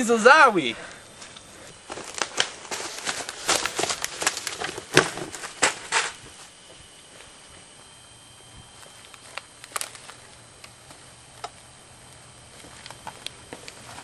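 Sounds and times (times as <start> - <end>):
crackling and rustling: 1.2 - 14.0.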